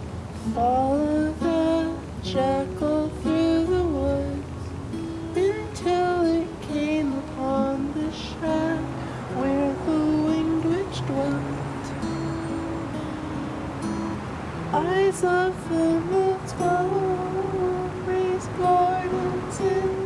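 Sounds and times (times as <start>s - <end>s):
acoustic guitar: 0.0s - 20.0s
man singing folk song: 0.4s - 12.4s, 14.7s - 20.0s.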